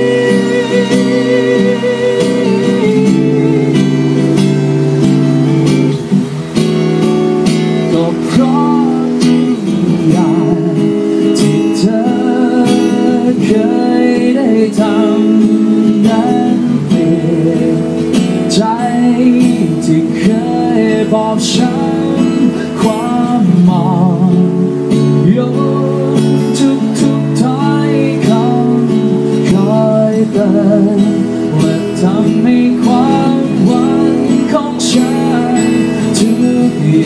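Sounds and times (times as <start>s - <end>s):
man singing: 0.0s - 5.1s, 7.8s - 37.0s
acoustic guitar strumming: 0.0s - 37.0s.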